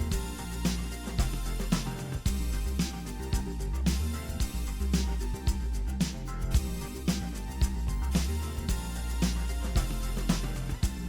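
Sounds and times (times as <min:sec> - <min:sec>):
funky music with bass and drums: 0:00.0 - 0:11.0.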